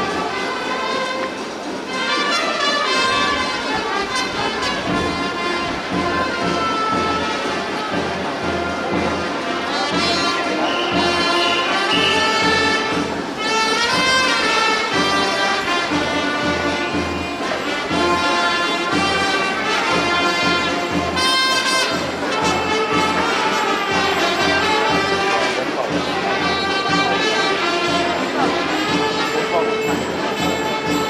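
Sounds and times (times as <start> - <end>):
wind instruments playing melody: 0.0 - 31.0
drum beat: 3.1 - 31.0.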